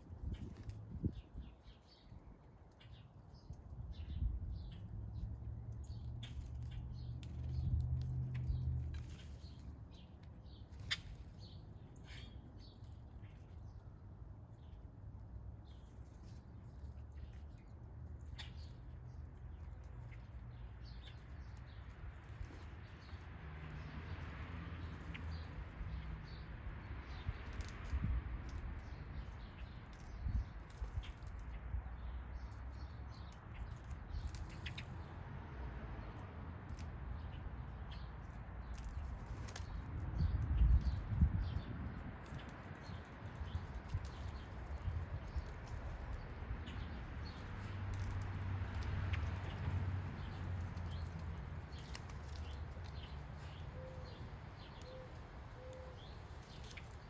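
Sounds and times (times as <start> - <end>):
small birds chirping: 0.2 - 35.3, 36.0 - 57.0.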